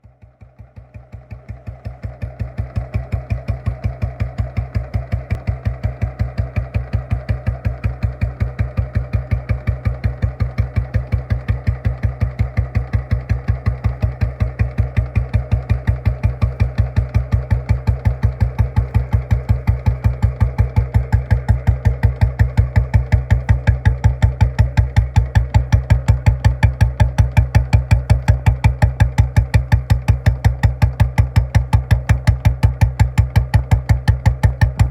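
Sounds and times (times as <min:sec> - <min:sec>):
motorcycle idling: 0:00.0 - 0:34.9.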